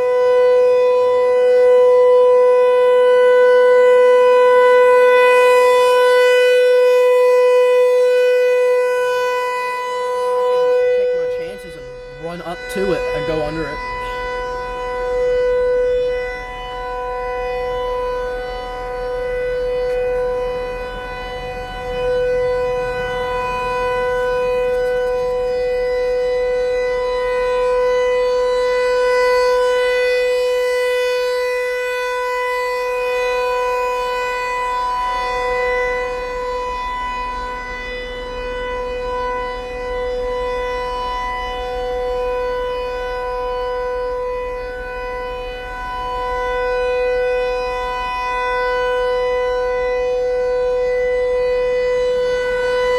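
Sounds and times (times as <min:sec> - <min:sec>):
rotating warning siren: 0:00.0 - 0:52.9.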